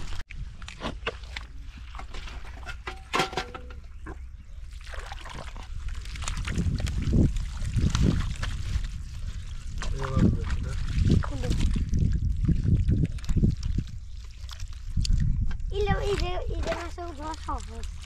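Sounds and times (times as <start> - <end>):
shallow water sloshing: 0.0 - 18.0.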